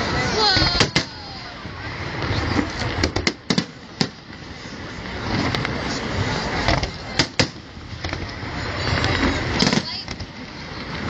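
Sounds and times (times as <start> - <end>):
crowd noise with voices: 0.0 - 11.0.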